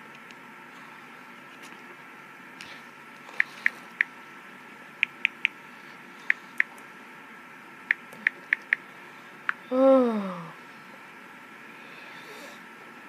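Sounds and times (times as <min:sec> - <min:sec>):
faint high hum: 0:00.0 - 0:13.0.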